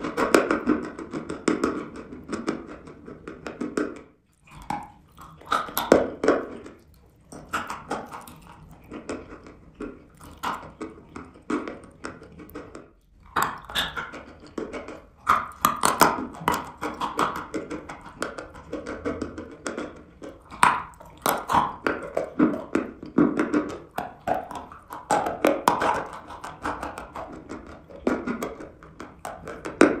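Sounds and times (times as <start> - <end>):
wet mouth sounds: 0.0 - 30.0.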